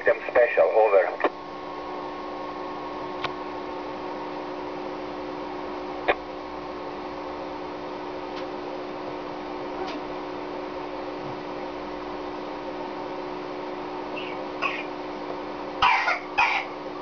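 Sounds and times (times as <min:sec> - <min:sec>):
radio receiver hum and hiss: 0:00.0 - 0:17.0.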